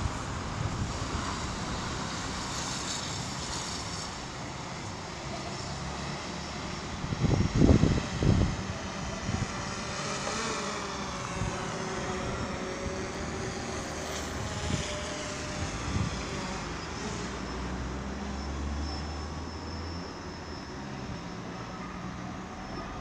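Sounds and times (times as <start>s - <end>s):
drone propellers humming: 4.1s - 23.0s.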